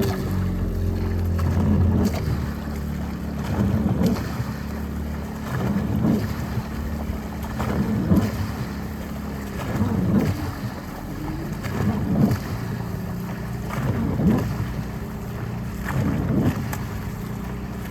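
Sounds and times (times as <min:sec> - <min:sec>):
boat engine humming: 0:00.0 - 0:17.9
water lapping at shore: 0:00.0 - 0:17.9.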